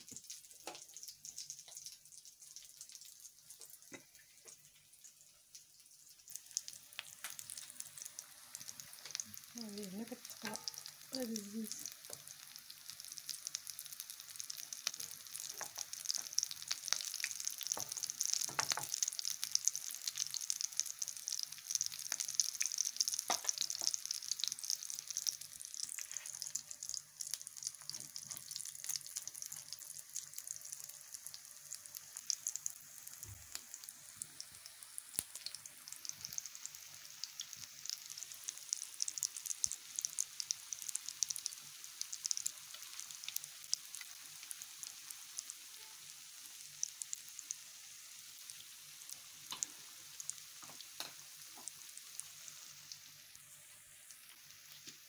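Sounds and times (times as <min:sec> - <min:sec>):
fritters sizzling in hot oil: 0:00.0 - 0:55.0.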